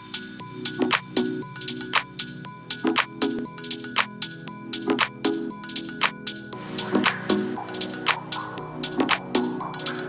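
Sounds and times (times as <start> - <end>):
electronic music with drums: 0.0 - 10.0.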